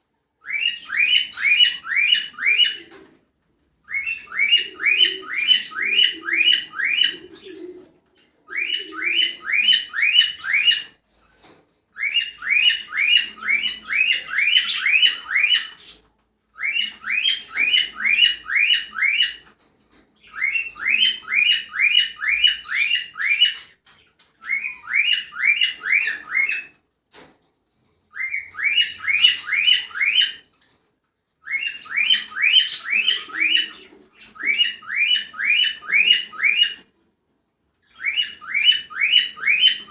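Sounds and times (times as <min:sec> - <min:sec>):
cockatiels chirping: 0:00.4 - 0:03.0, 0:03.9 - 0:07.4, 0:08.5 - 0:11.0, 0:12.0 - 0:19.5, 0:20.2 - 0:26.8, 0:28.1 - 0:30.4, 0:31.4 - 0:36.9, 0:37.9 - 0:39.9.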